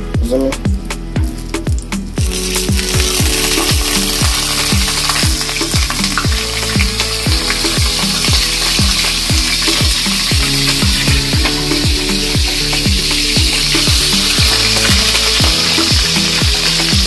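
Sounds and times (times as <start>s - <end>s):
background music with bass beat: 0.0s - 17.0s
chicken sizzling in hot oil: 2.2s - 17.0s.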